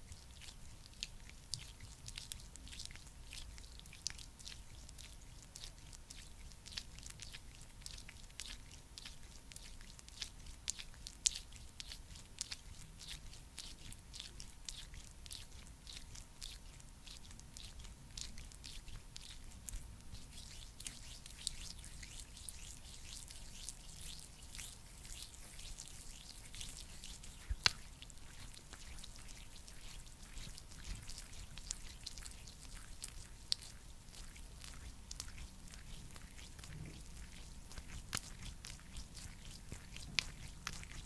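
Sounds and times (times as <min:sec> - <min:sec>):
sticky wet crackling of cream: 0:00.0 - 0:41.0.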